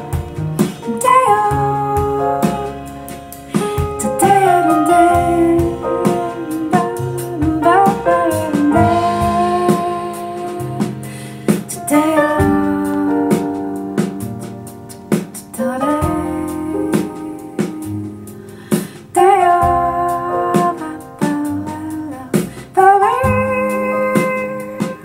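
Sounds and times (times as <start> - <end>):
jazz music with piano: 0.0 - 25.0.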